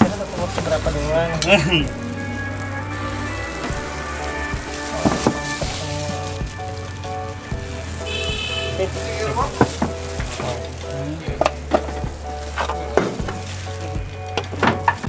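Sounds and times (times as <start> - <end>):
batter sizzling in a pan: 0.0 - 15.0.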